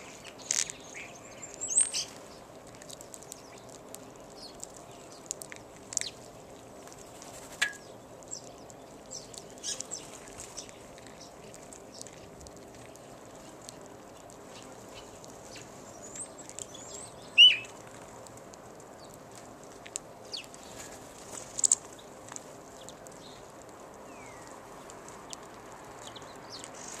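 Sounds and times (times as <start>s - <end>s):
low background noise: 0.0s - 27.0s
songbirds chirping and twittering: 0.0s - 27.0s.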